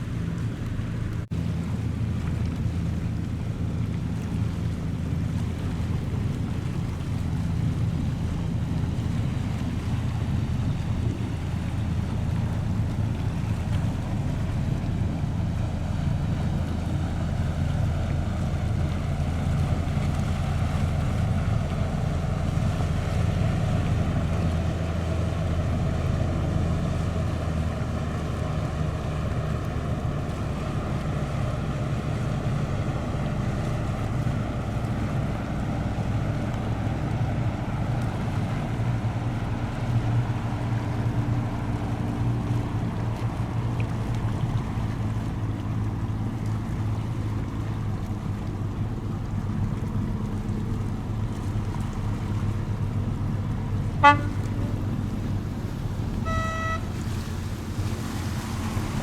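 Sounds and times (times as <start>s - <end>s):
boat engines humming: 0.0s - 59.0s.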